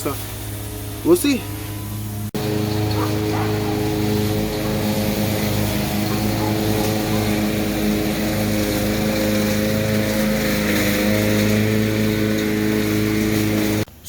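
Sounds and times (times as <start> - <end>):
small engine droning: 0.0 - 13.9.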